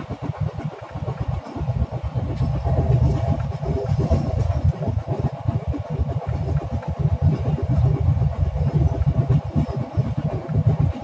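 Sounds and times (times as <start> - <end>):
passenger train running: 0.0 - 11.0
wind buffeting microphone: 0.0 - 11.0.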